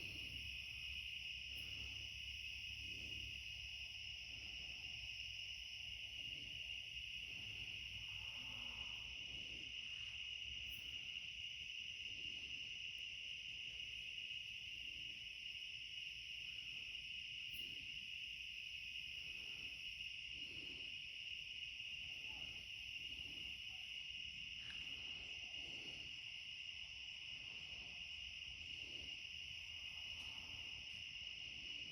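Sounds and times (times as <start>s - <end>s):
insects chorus: 0.0s - 31.9s.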